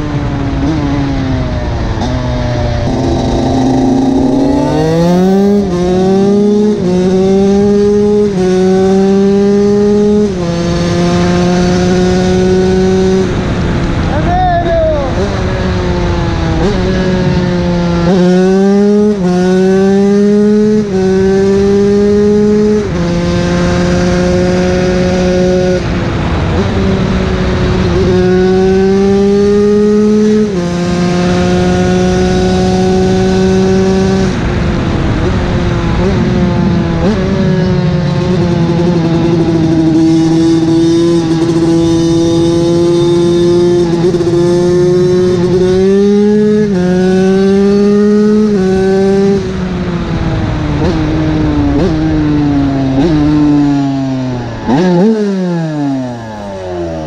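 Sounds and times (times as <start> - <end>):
motorcycle engine at high revs: 0.0 - 14.1, 15.0 - 57.0.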